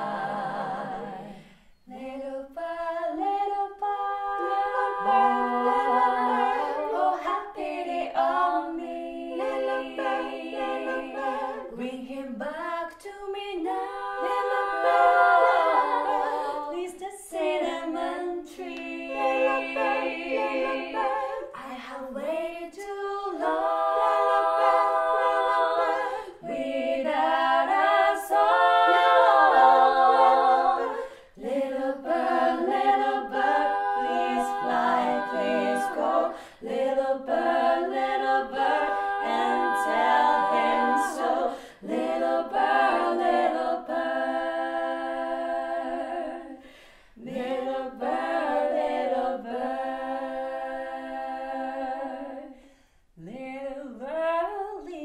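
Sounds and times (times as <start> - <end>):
women singing a cappella harmony: 0.0 - 55.0.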